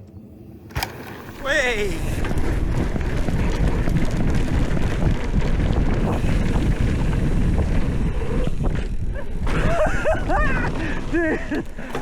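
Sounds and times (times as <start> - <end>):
tyre rumble on trail: 0.8 - 12.0
wind rushing over microphone: 1.2 - 12.0.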